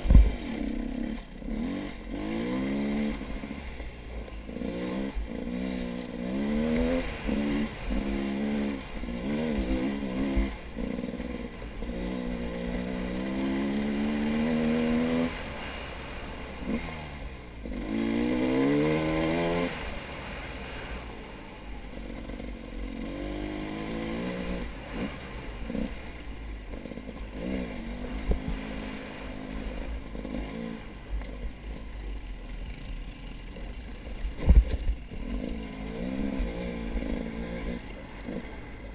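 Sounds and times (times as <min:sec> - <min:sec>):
vehicle engine revving: 0:00.0 - 0:38.9.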